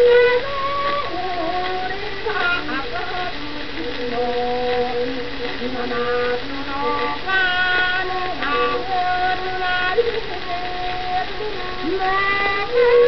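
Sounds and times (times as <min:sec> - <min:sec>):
old record music melody: 0:00.0 - 0:13.0
record surface hiss: 0:00.0 - 0:13.0.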